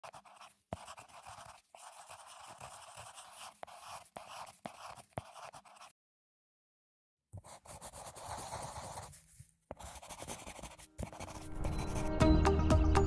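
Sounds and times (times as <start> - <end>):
pen scratching on paper: 0.0 - 5.9, 7.4 - 12.1.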